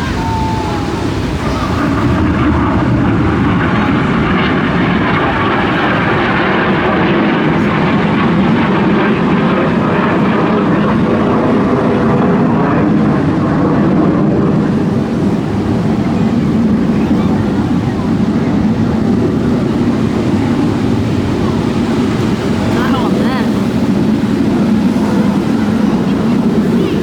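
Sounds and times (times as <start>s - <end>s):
aircraft flying past: 0.0s - 27.0s.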